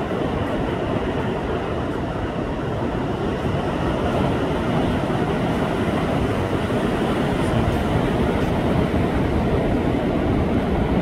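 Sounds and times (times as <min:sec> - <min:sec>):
surf breaking on a beach: 0:00.0 - 0:11.0.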